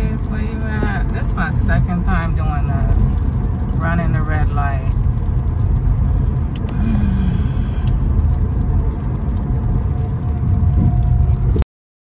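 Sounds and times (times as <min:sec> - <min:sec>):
car road and engine rumble: 0:00.0 - 0:11.6.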